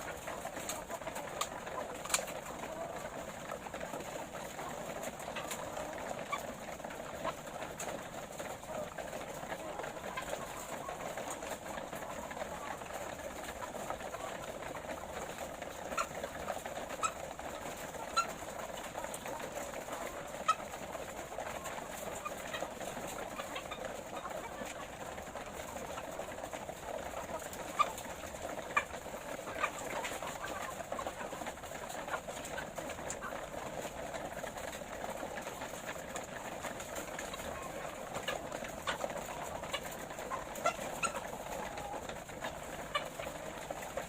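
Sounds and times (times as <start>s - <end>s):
hens clucking: 0.0s - 44.0s.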